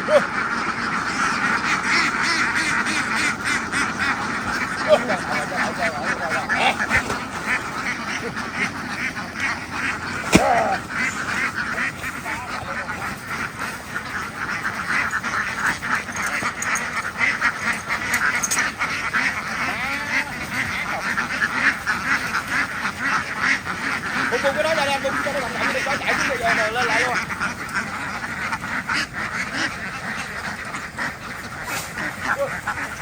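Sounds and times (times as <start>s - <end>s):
flock of ducks quacking: 0.0s - 33.0s.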